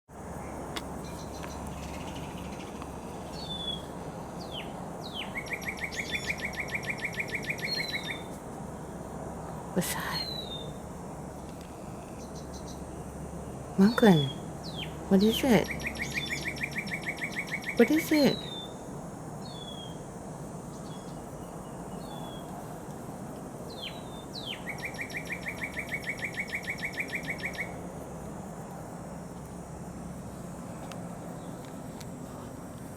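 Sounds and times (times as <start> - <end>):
low background hum: 0.1 - 32.9
songbird singing: 0.1 - 32.9.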